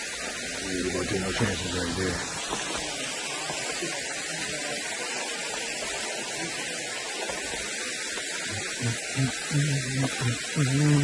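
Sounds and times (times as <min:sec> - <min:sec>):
stream water over rocks: 0:00.0 - 0:11.0.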